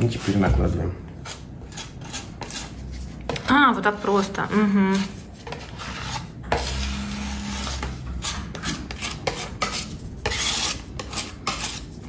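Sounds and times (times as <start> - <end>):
putty knife scraping filler paste: 1.2 - 4.3, 4.9 - 12.0.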